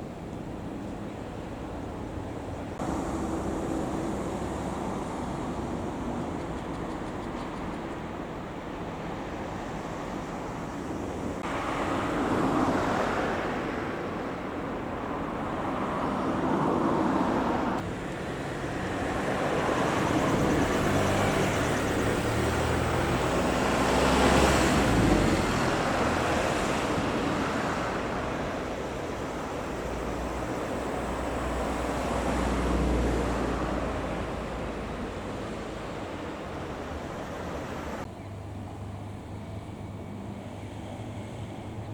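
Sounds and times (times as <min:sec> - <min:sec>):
vehicles driving past: 0:00.0 - 0:41.9.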